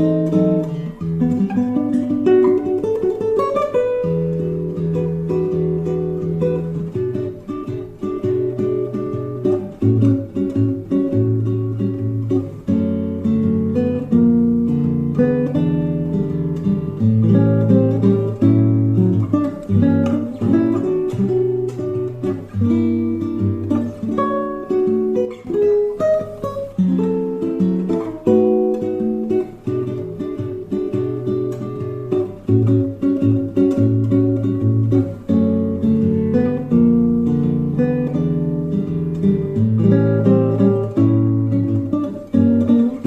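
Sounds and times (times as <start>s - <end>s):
solo acoustic guitar: 0.0s - 43.0s.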